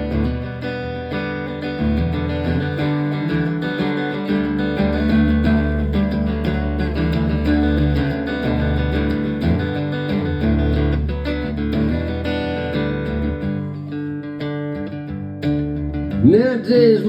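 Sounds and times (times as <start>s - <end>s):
live rock guitars playing: 0.0s - 17.0s.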